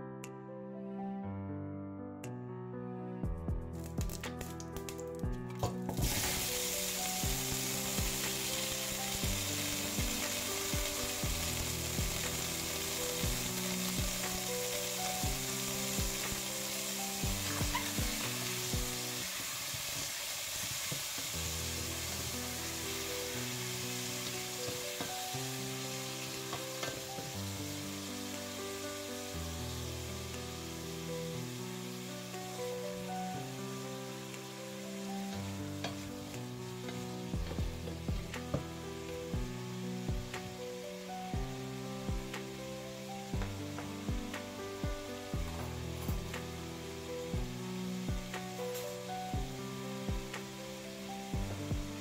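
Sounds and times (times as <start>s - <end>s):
vegetables sizzling in a pot: 5.6s - 52.0s.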